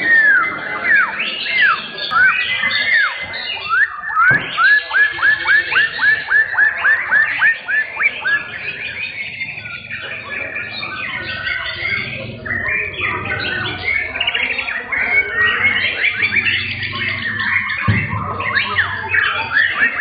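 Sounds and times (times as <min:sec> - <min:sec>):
songbirds whistling and chattering: 0:00.0 - 0:20.0.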